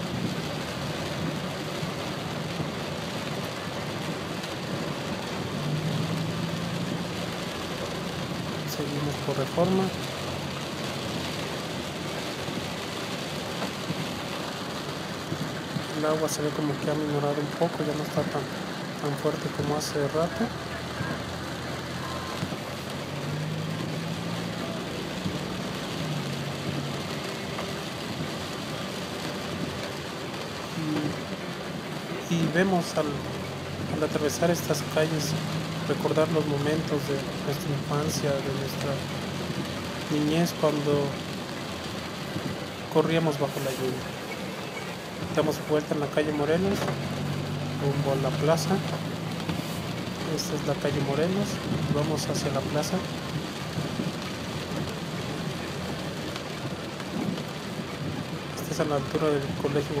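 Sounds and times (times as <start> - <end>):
car engine low hum: 0.0 - 40.2, 43.5 - 60.0
heavy rain hissing on street: 0.0 - 60.0
tyres on wet pavement: 0.0 - 60.0.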